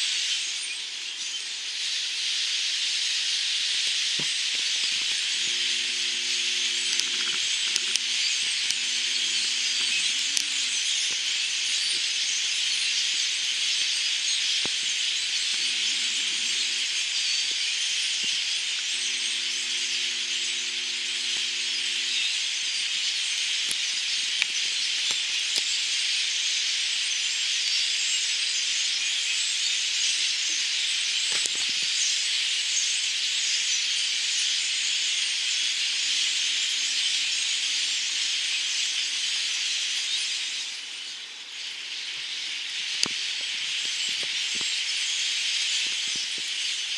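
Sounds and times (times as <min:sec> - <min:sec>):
flock of birds calling: 0:00.1 - 0:46.9.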